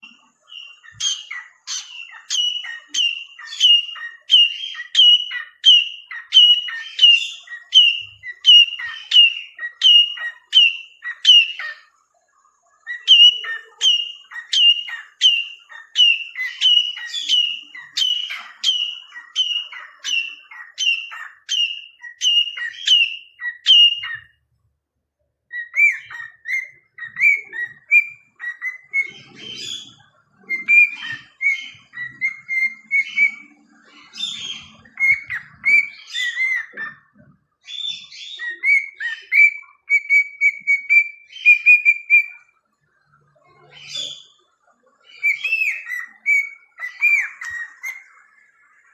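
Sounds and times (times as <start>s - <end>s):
cockatiel chirping whistles: 0.5s - 11.8s, 12.9s - 24.3s, 25.5s - 29.8s, 30.6s - 33.5s, 34.2s - 37.0s, 37.7s - 42.4s, 45.2s - 48.0s.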